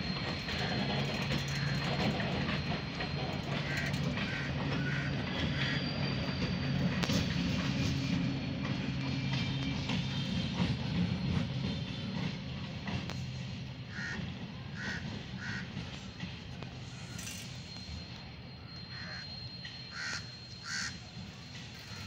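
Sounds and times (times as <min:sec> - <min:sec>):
diesel train engine drone: 0:00.0 - 0:22.0
train wheels on rails: 0:00.0 - 0:22.0.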